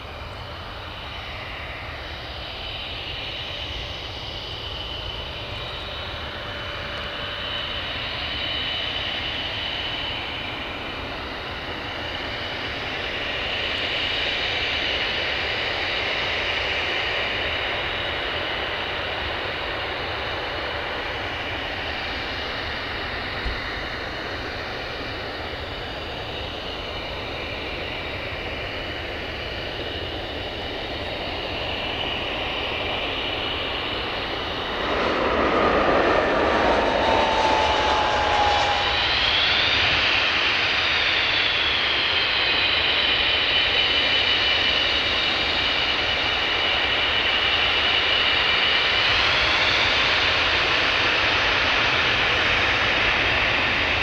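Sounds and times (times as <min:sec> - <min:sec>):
jet engine roar: 0:00.0 - 0:54.0
jet engines whining: 0:00.0 - 0:54.0.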